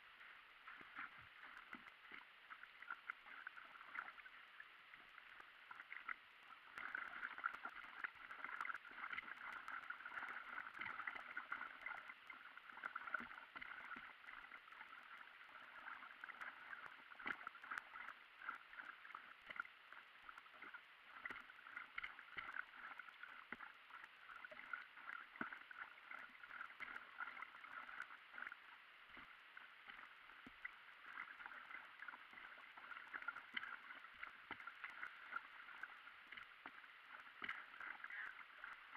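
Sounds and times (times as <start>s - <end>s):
paddle water splashing and gurgling: 0.0s - 38.9s.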